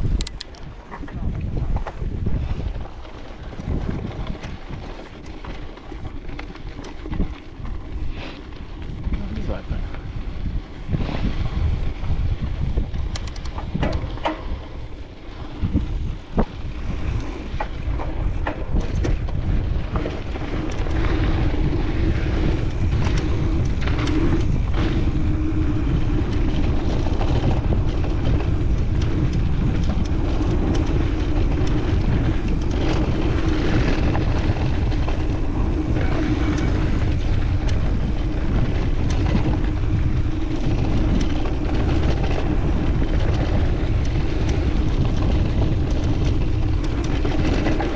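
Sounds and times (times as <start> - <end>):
bike knocking and rattling: 0.0 - 47.9
bike rolling on dirt trail: 0.0 - 47.9
wind buffeting camera: 0.0 - 47.9.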